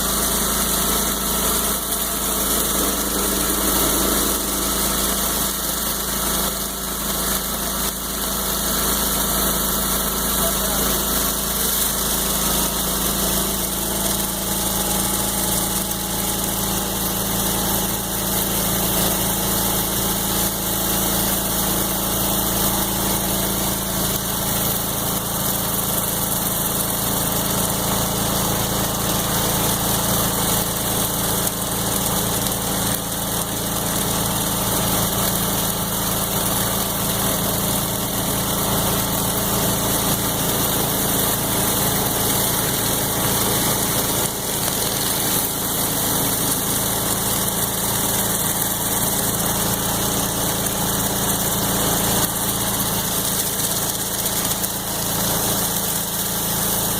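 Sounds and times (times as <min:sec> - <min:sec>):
high-pressure water spraying: 0:00.0 - 0:56.9
pressure washer engine running: 0:00.0 - 0:56.9.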